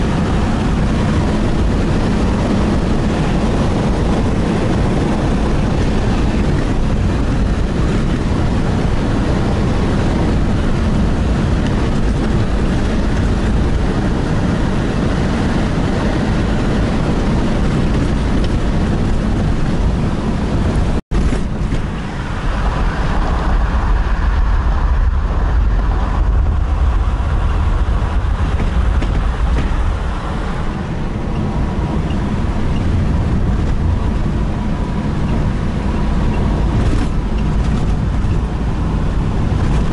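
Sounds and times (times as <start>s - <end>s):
tyres and engine rumble: 0.0s - 39.9s.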